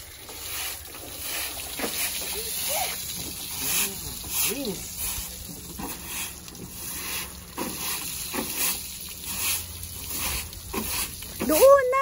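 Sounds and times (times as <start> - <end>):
low steady hum: 0.0 - 12.0
scrubbing and splashing water: 0.0 - 12.0.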